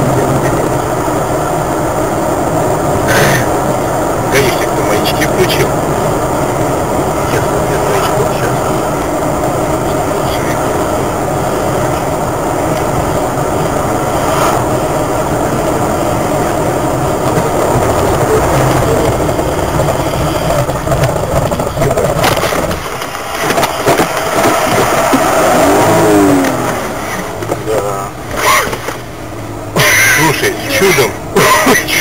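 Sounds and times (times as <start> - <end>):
car road and engine noise: 0.0 - 32.0
truck passing: 0.0 - 32.0.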